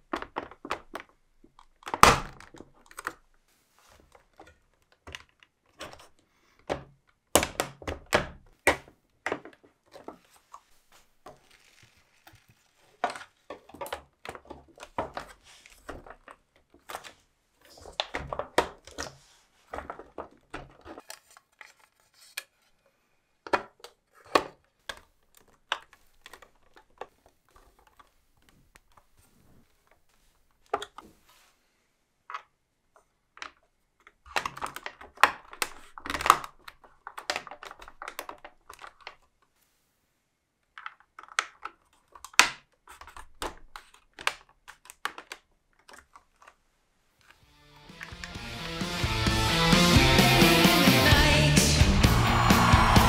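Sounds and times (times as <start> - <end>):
plastic parts clicking and tapping: 0.0 - 3.3, 4.0 - 22.6, 23.4 - 29.1, 30.6 - 31.1, 32.2 - 39.5, 40.6 - 46.6, 47.2 - 48.5.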